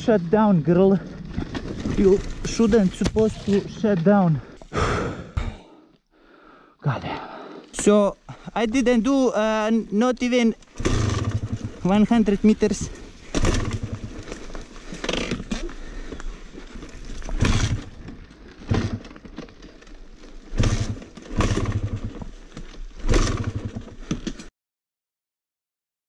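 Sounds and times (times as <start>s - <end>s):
dirt bike engine cranking and sputtering: 0.0s - 4.7s, 7.7s - 24.5s.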